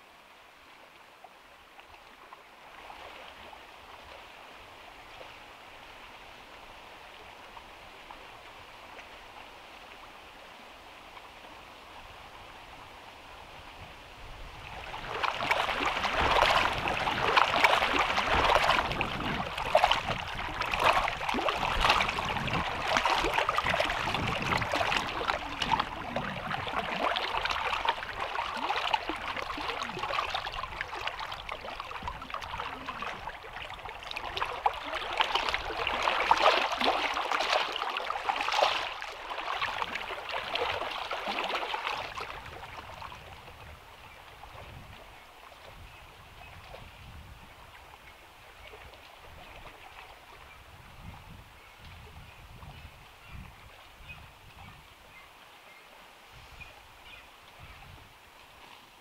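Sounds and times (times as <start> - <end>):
small waves lapping on a lake: 0.0 - 59.0.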